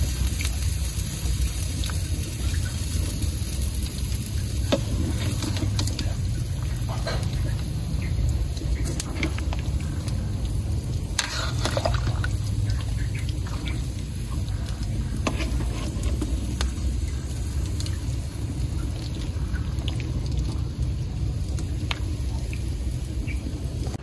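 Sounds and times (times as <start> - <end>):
steady low rumble: 0.0 - 24.0
stew simmering and bubbling: 0.0 - 24.0.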